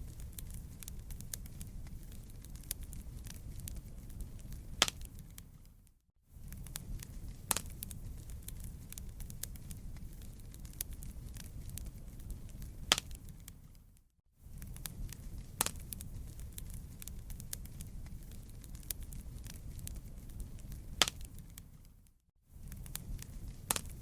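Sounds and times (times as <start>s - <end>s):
fire pop: 0.0s - 5.7s, 6.4s - 13.9s, 14.5s - 22.0s, 22.6s - 24.0s
wood fire crackling: 0.0s - 24.0s.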